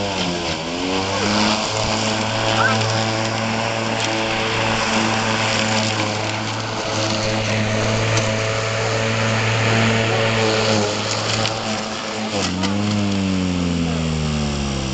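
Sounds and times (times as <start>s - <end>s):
small petrol engine running: 0.0s - 14.9s.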